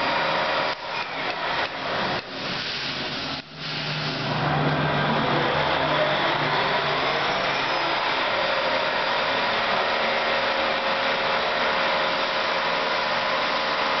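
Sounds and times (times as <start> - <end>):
milling machine running: 0.0 - 14.0.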